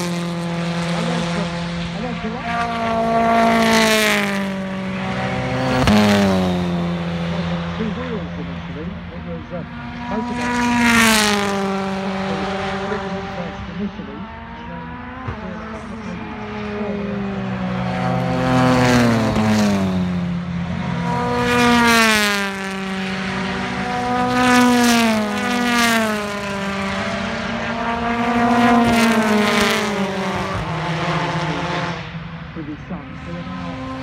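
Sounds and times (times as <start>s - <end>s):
racing cars passing: 0.0s - 34.0s.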